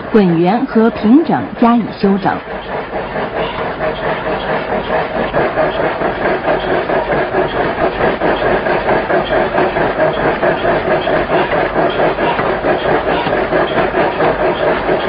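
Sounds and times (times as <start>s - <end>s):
power hammer striking hot metal: 1.0s - 15.0s.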